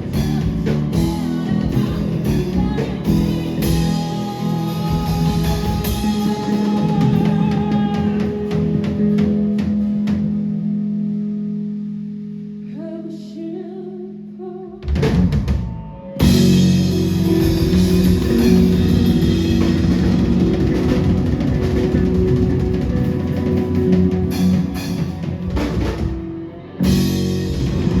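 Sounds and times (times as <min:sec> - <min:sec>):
live band with electric guitar: 0:00.0 - 0:13.3, 0:14.8 - 0:28.0.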